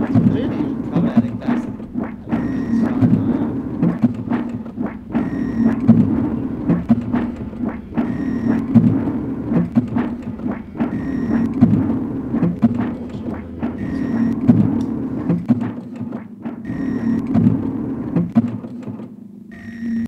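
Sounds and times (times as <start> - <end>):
printing press machinery humming: 0.0 - 20.0.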